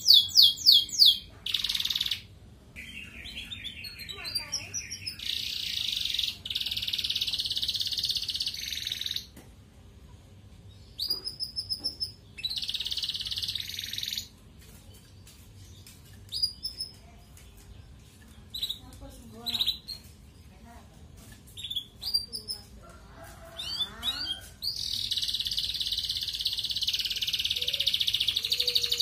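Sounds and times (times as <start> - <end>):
canary chirps and calls: 0.0 - 9.3, 10.7 - 29.0
canary trilling: 0.0 - 9.3, 10.8 - 14.4, 15.8 - 17.0, 18.2 - 20.1, 21.5 - 29.0.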